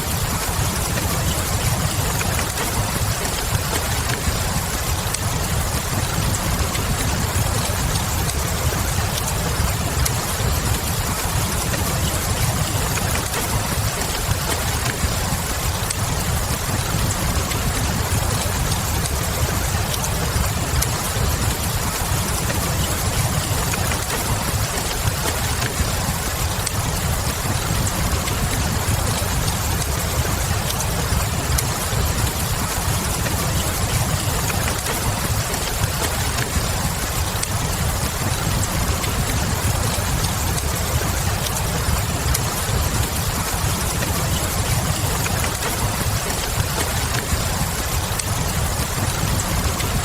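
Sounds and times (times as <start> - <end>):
fireplace crackle: 0.0 - 50.0
rain hiss: 0.0 - 50.0.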